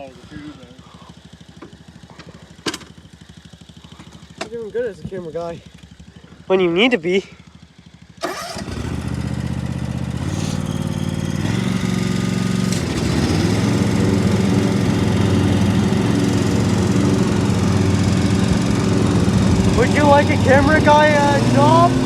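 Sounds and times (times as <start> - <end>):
lawn mower engine revving: 0.0 - 22.0.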